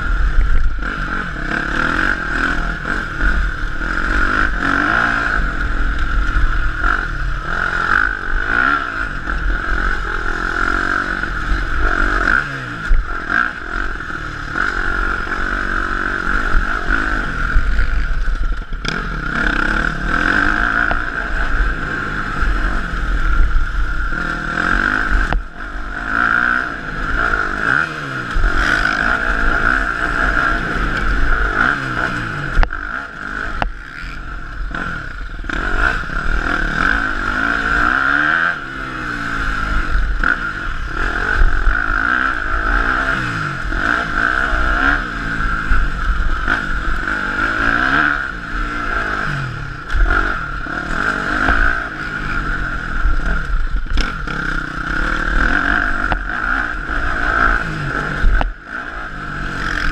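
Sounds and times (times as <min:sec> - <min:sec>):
motocross bike engine revving: 0:00.0 - 0:59.9
steady rushing noise: 0:00.0 - 0:59.9.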